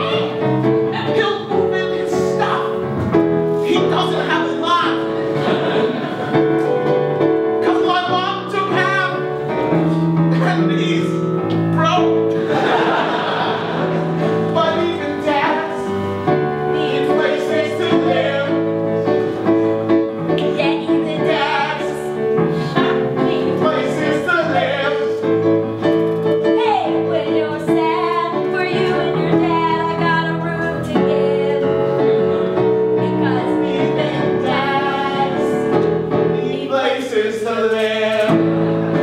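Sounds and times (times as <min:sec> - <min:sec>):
piano chords: 0:00.0 - 0:39.0.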